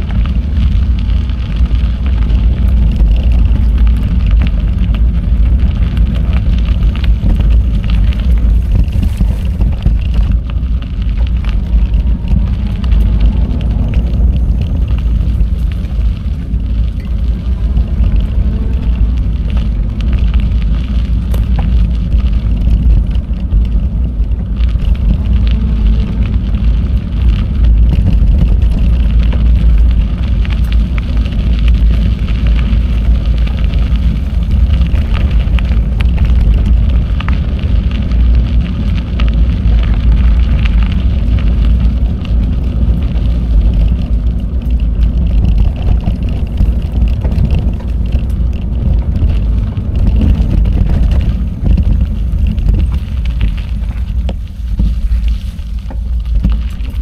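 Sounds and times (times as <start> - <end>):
faint bicycle clicks: 0.0 - 57.0
wind buffeting microphone: 0.0 - 57.0.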